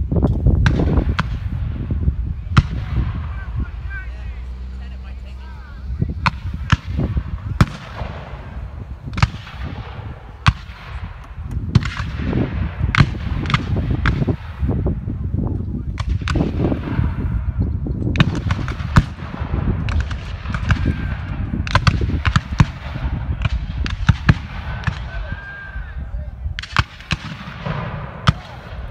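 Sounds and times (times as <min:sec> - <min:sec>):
steady low rumble: 0:00.0 - 0:28.9
muskets firing blank shots: 0:00.4 - 0:04.0, 0:06.2 - 0:14.9, 0:15.9 - 0:25.3, 0:26.5 - 0:28.9.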